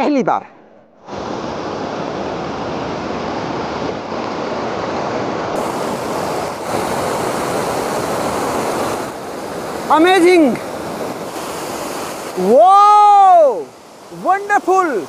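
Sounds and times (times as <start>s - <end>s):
river water rushing over rocks: 1.1s - 15.0s.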